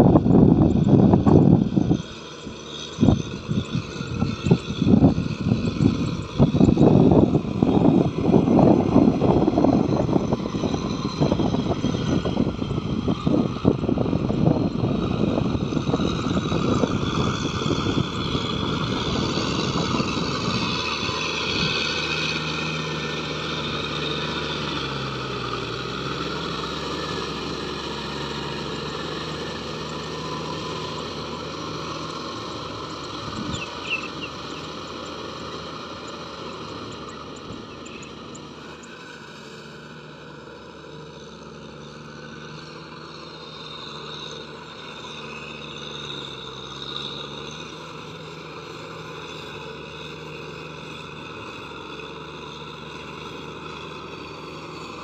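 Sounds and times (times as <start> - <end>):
rotavator churning mud and water: 0.0 - 55.0
tractor diesel engine running: 0.0 - 55.0.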